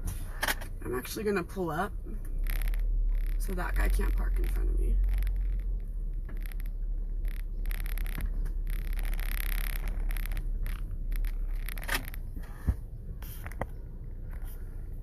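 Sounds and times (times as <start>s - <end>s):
car rumble: 0.0s - 15.0s.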